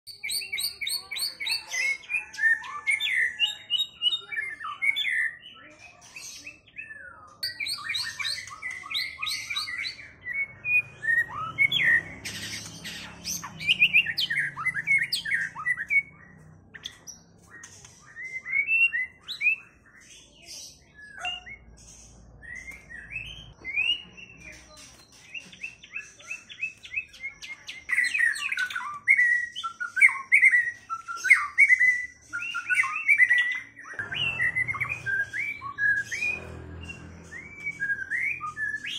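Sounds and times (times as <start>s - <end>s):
songbird singing whistles and trills: 0.1s - 21.8s, 22.4s - 38.9s.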